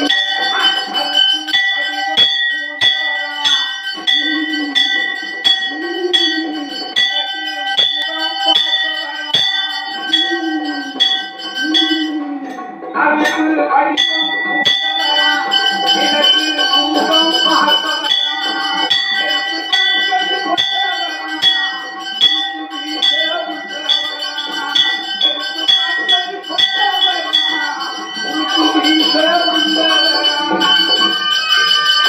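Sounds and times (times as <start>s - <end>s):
temple bell ringing: 0.0s - 32.0s.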